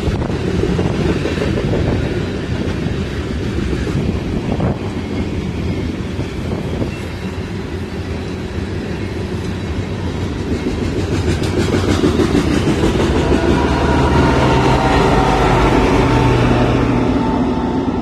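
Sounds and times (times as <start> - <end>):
wheels clacking over rail joints: 0.0 - 15.6
locomotive engine drone: 0.0 - 18.0
train cars rumbling: 0.0 - 18.0.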